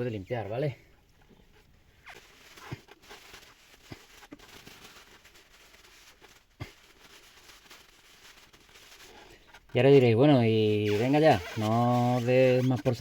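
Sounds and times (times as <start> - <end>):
rag rubbing on metal: 2.0 - 13.0.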